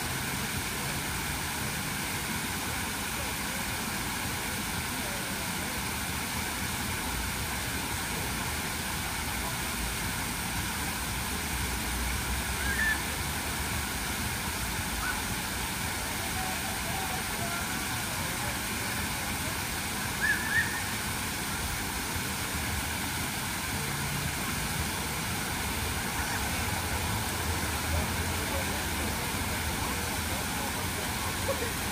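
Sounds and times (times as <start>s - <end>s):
fountain water splashing: 0.0s - 31.9s.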